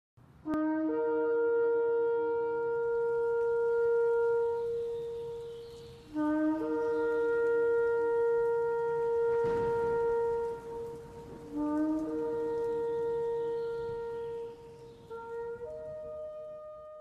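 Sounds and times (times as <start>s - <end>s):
shofar blasts: 0.4s - 17.0s.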